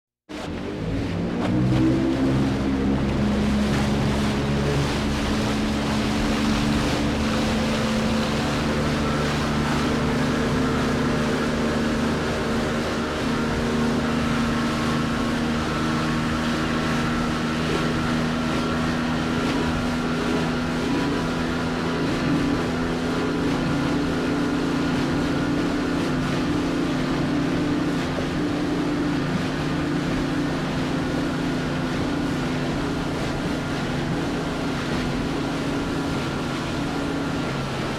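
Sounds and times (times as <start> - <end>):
boat engine humming: 0.3 - 37.9
water washing against boat hull: 0.3 - 37.9.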